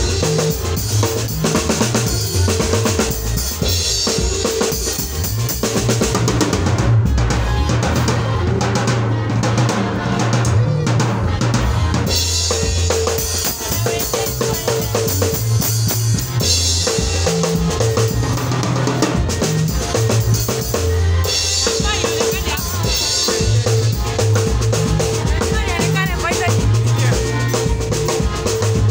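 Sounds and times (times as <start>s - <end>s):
drum kit groove: 0.0s - 28.9s
electric bass guitar: 0.0s - 28.9s
keyboard: 0.0s - 28.9s.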